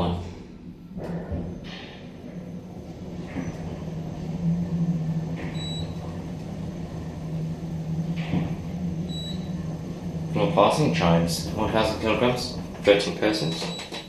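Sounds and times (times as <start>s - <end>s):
lift car humming: 0.0s - 14.0s.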